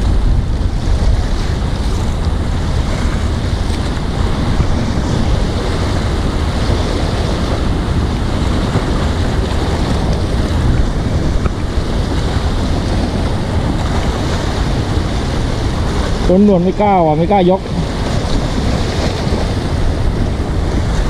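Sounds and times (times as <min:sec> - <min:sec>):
waves splashing on rocks: 0:00.0 - 0:21.0
wind buffeting microphone: 0:00.0 - 0:21.0.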